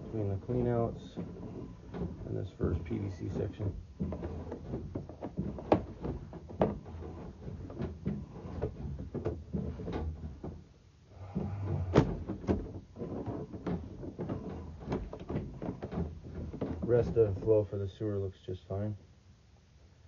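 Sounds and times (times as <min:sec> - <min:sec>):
cable rattling and knocking: 0:00.0 - 0:17.6
steady low hum: 0:00.0 - 0:20.0.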